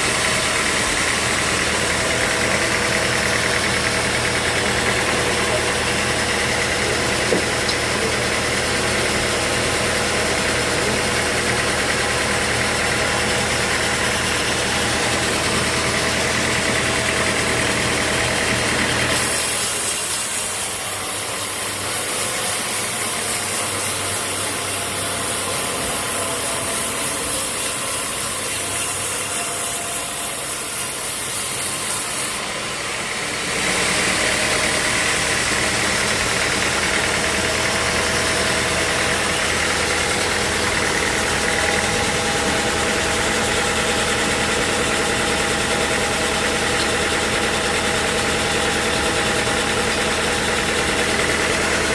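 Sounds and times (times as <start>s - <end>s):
sawmill machinery motor hum: 0.0s - 51.9s.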